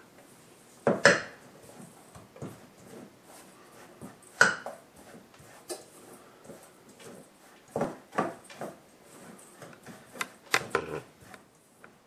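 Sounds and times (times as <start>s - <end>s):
spatula scraping in a bowl: 1.4s - 11.6s.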